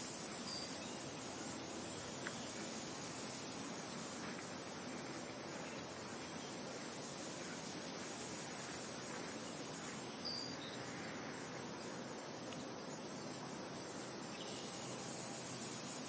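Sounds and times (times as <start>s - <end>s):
steady wind blowing: 0.0s - 16.0s.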